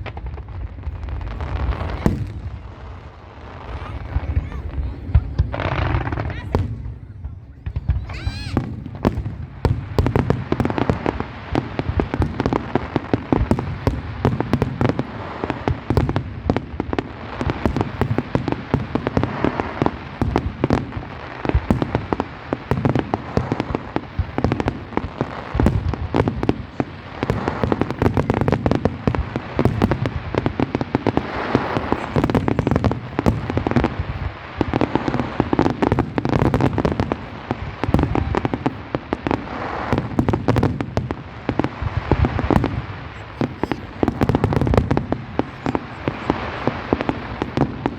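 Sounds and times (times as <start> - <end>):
fireworks booming and crackling: 0.0 - 47.9.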